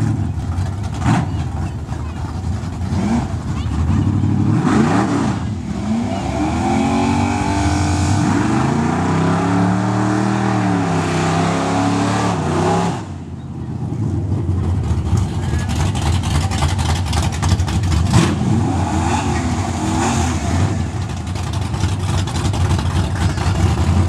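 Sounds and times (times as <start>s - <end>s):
drag car engines revving: 0.0s - 24.0s.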